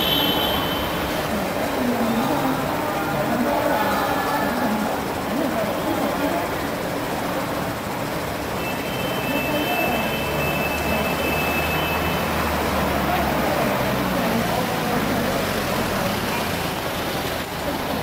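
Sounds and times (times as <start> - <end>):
passing cars and buses: 0.0 - 18.0
voices of passers-by: 0.0 - 18.0.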